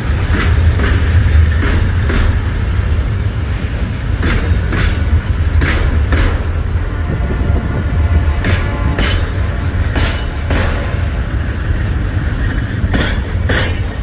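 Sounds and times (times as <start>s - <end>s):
wheels clicking over rail joints: 0.0s - 7.0s, 8.2s - 14.0s
freight train wagons rumbling: 0.0s - 14.0s.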